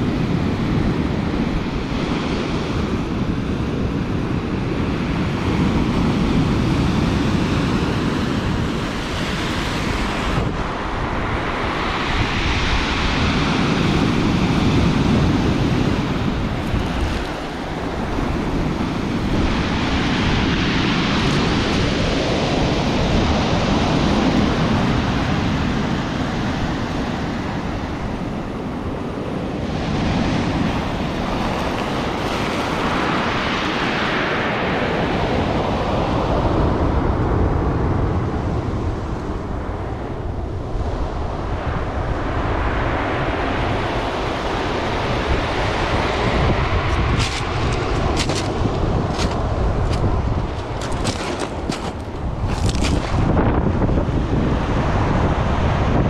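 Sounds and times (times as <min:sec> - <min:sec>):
waves crashing on pebble beach: 0:00.0 - 0:37.5, 0:42.5 - 0:55.8.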